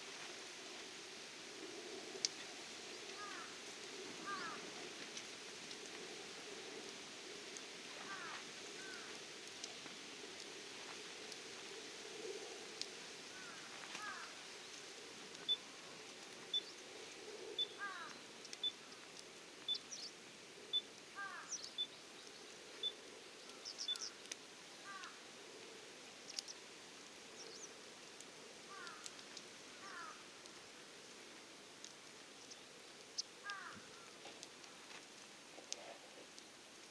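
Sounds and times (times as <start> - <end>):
campfire crackling: 0.0 - 36.9.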